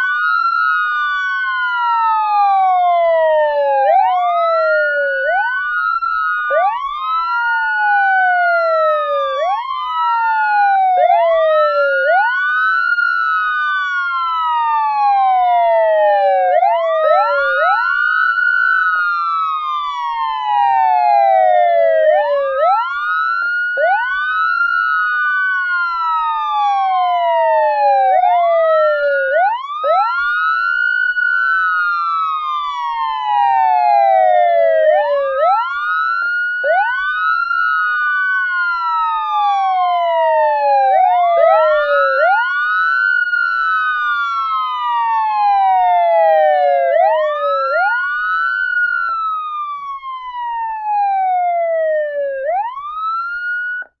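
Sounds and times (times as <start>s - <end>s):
police siren wailing: 0.0s - 54.0s.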